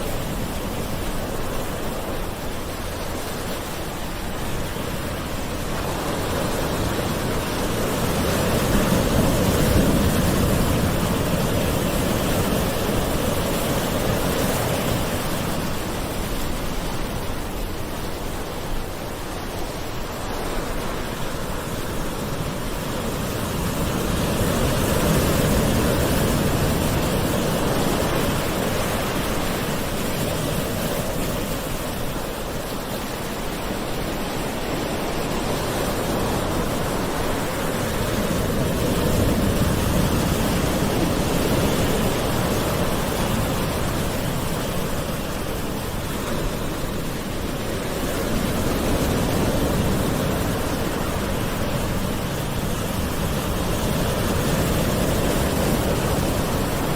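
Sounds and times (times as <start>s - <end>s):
gentle waves washing onto shore: 0.0s - 56.9s.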